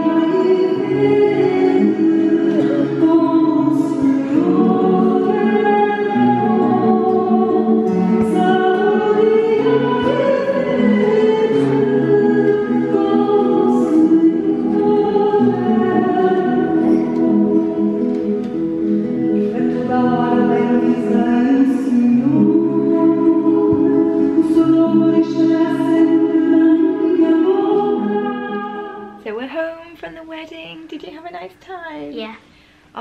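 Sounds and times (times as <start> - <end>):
choir singing held chords: 0.0 - 29.2.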